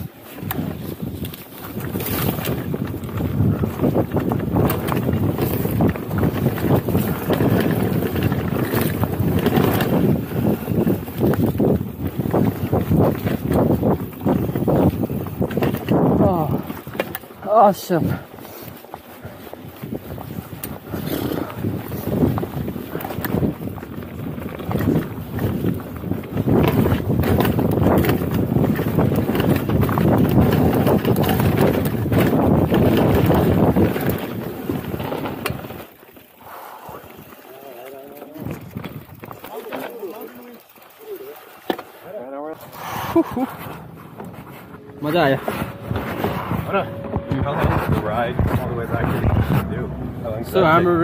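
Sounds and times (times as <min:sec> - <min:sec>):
wind rushing over microphone: 0:00.0 - 0:37.4, 0:38.4 - 0:39.6, 0:42.6 - 0:51.0
bike rattling over rocks: 0:00.0 - 0:42.7, 0:43.3 - 0:51.0
bike tyre noise on dirt: 0:00.0 - 0:51.0.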